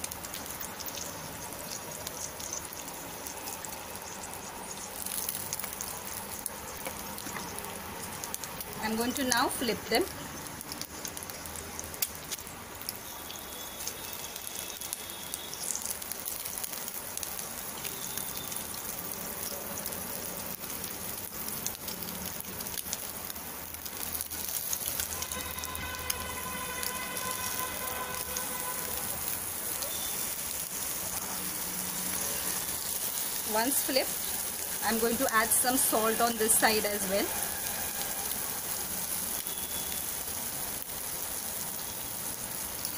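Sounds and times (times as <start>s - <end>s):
eggs sizzling in oil: 0.0s - 42.9s.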